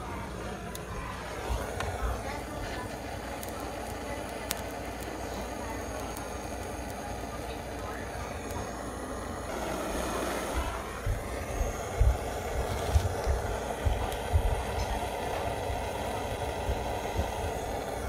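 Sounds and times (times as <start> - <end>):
fan-driven flame blast: 0.0 - 18.0.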